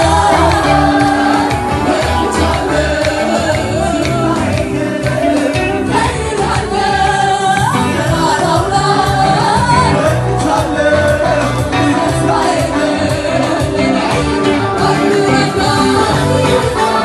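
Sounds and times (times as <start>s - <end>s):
amplified backing music with beat: 0.0s - 17.0s
choir singing gospel: 0.0s - 17.0s.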